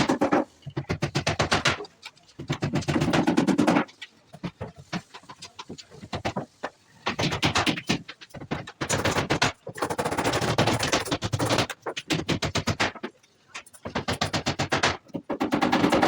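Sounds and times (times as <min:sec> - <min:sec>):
rapid sharp knocks or scraping: 0:00.0 - 0:16.0.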